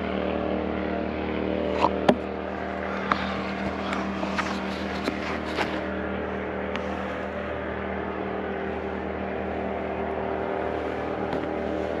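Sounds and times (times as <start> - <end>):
engine running steadily: 0.0 - 12.0
haze of noise: 0.0 - 12.0.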